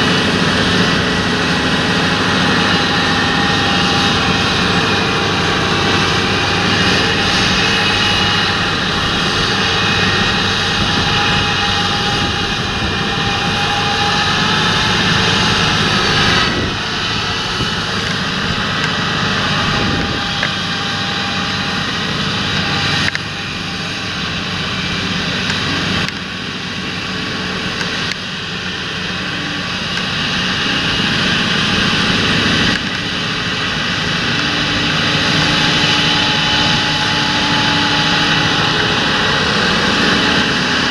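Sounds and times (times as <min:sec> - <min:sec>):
high whine: 0:00.0 - 0:40.9
tractor diesel engine running: 0:00.0 - 0:40.9.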